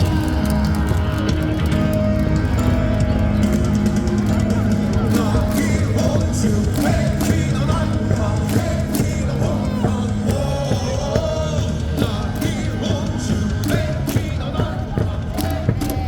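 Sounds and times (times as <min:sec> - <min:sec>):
rock music with singing over loudspeakers: 0:00.0 - 0:16.0.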